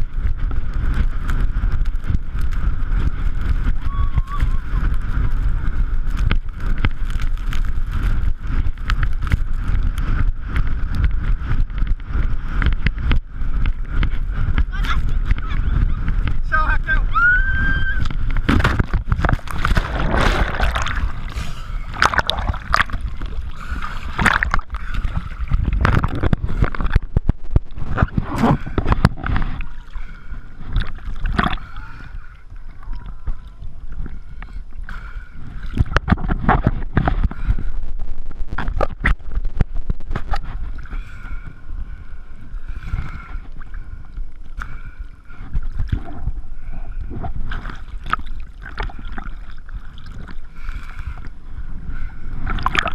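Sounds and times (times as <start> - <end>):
water rushing past hull: 0.0 - 52.9
wind buffeting microphone: 0.0 - 52.9.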